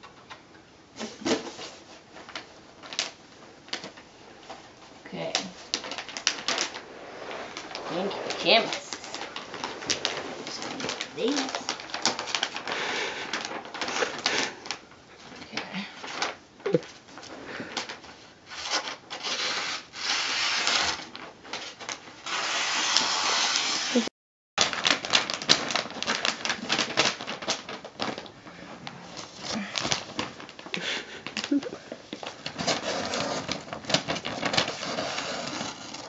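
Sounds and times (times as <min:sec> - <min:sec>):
wrapping paper rustling: 0:01.0 - 0:36.0.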